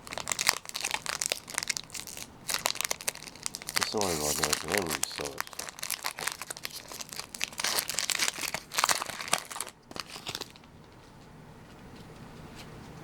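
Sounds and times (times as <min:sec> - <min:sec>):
foil wrapper crinkling and tearing: 0:00.0 - 0:10.7.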